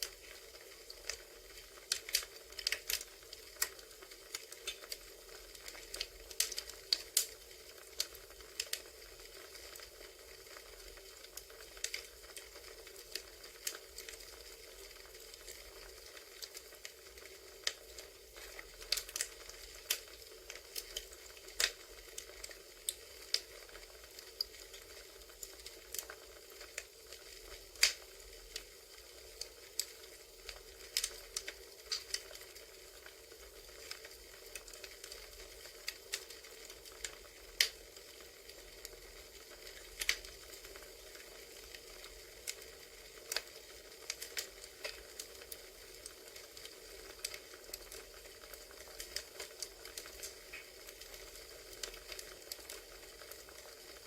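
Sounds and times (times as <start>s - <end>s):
soft steady hiss: 0.0s - 54.0s
wood fire pops and snaps: 0.0s - 54.0s.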